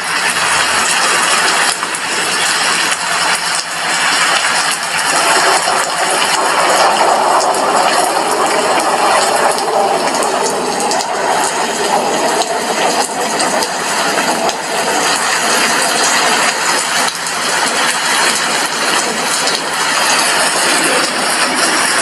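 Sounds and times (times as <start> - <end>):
heavy rain hiss: 0.0 - 22.0
raindrops ticking on window glass: 0.0 - 22.0.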